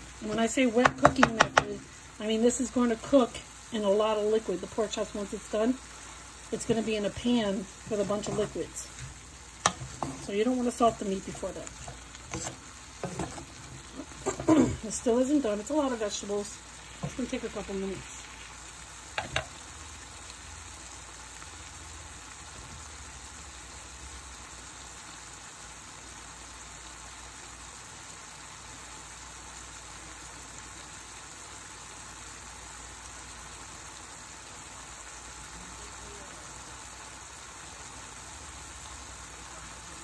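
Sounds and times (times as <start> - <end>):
vegetables sizzling in a skillet: 0.0 - 40.0.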